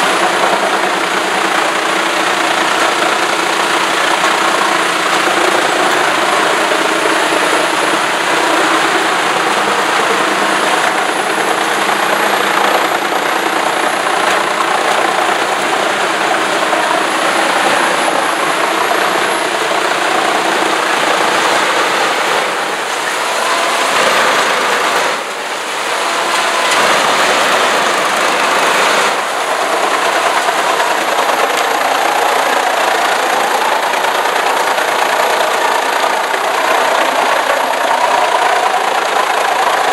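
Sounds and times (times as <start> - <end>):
wood chipper chipping logs: 0.0 - 39.9.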